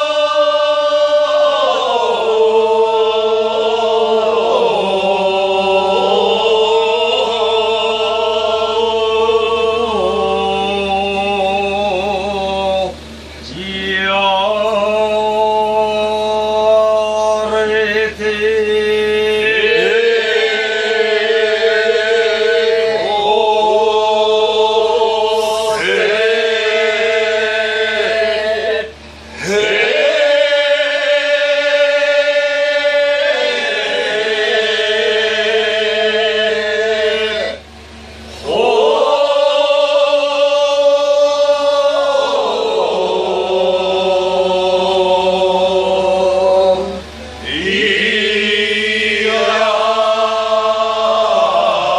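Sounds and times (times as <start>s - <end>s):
work chant sung in wavering notes: 0.0s - 51.9s.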